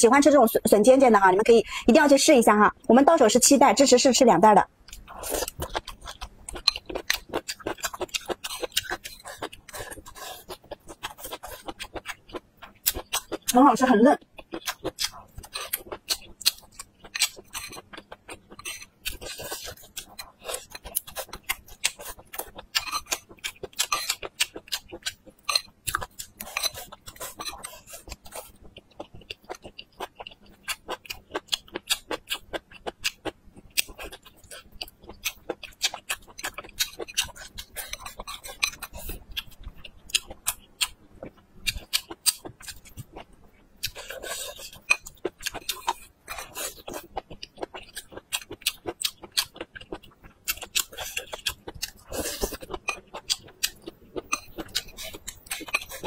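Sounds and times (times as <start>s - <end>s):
chewing crunchy food: 4.9s - 56.0s.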